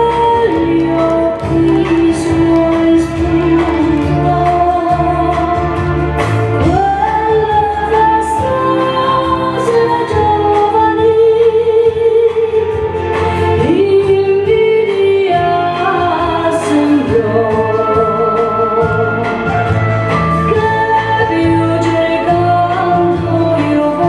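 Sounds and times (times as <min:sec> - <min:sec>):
band accompaniment: 0:00.0 - 0:24.0
woman singing with vibrato: 0:00.0 - 0:24.0.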